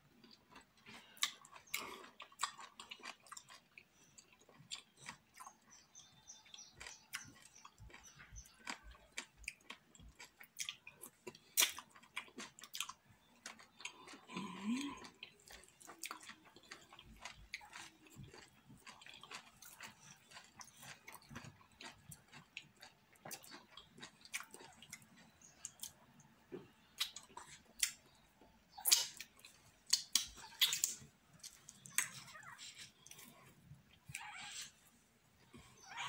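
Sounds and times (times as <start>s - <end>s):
chewing and wet lip-smacking: 0.2s - 34.8s.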